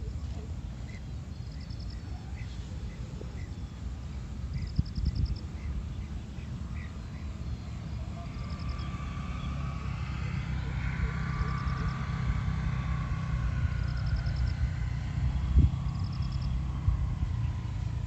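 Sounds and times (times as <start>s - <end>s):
distant engine droning: 0.0s - 18.0s.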